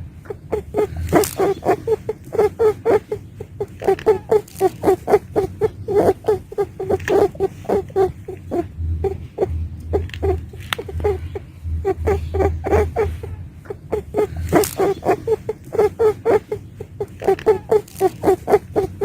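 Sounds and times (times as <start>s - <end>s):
rabbit squeaky calls: 0.0s - 19.0s.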